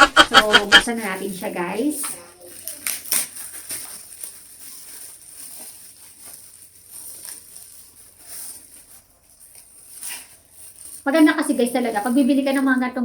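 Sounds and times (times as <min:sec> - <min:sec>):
packaging rustling and crinkling: 0:00.9 - 0:13.0.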